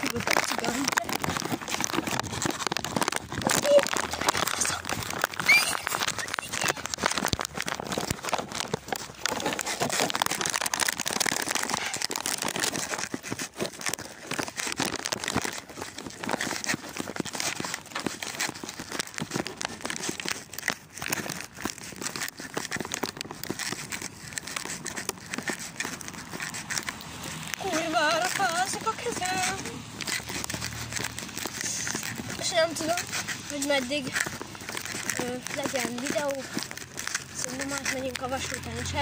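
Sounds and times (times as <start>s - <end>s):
footsteps: 0.0s - 39.0s.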